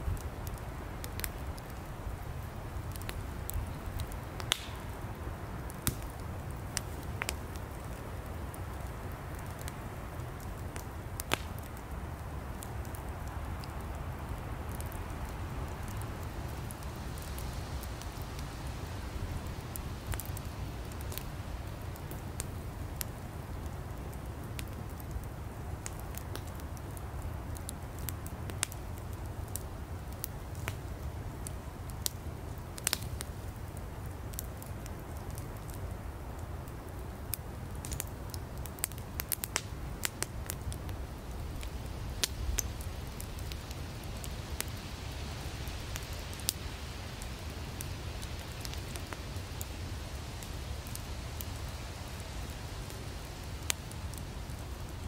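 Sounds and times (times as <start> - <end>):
firewood crackling and popping: 0.0 - 55.0
wood fire burning: 0.0 - 55.0.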